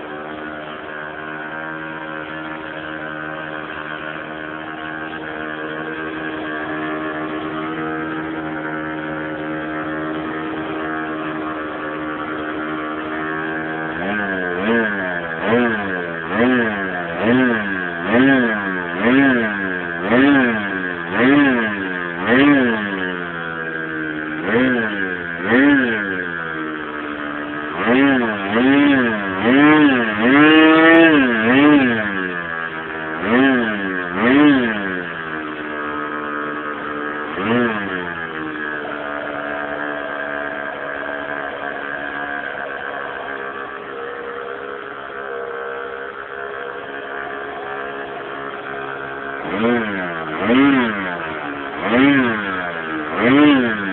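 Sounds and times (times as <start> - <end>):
model airplane engine revving: 0.0 - 53.9.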